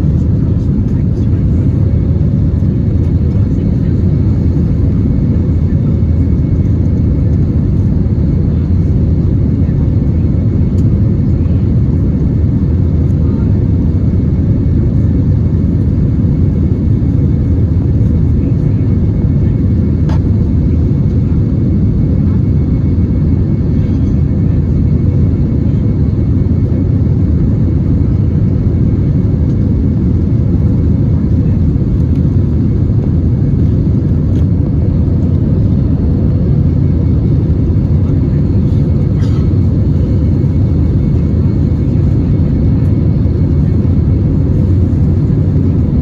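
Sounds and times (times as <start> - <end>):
airplane cabin engine rumble: 0.0 - 46.0.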